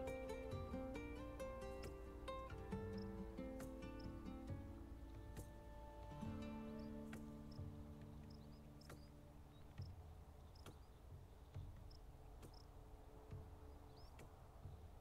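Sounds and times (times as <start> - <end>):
soft low thumps: 0.0 - 15.0.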